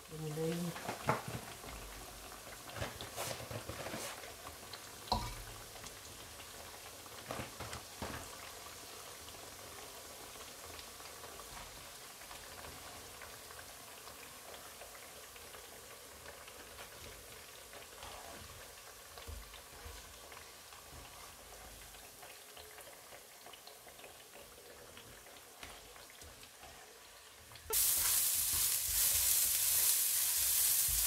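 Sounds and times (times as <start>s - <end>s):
hot oil sizzling and bubbling: 0.0s - 31.0s.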